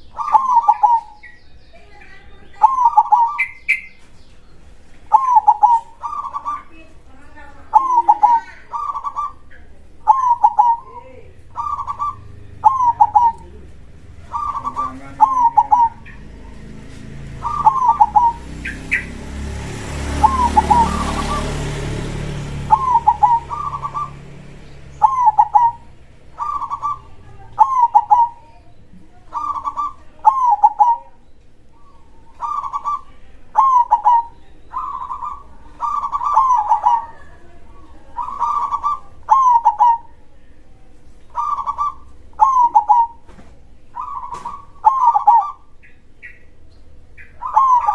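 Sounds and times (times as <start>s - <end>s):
dove cooing: 0.0s - 4.0s, 5.0s - 47.9s.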